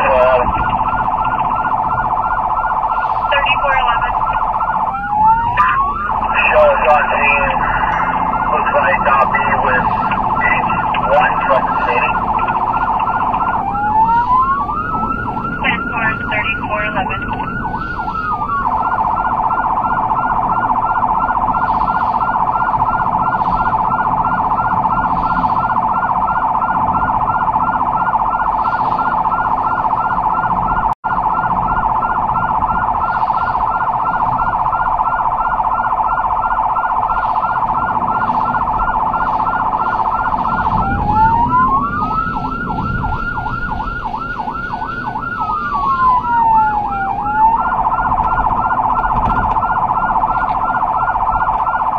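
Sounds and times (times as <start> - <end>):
emergency vehicle siren: 0.0 - 51.9.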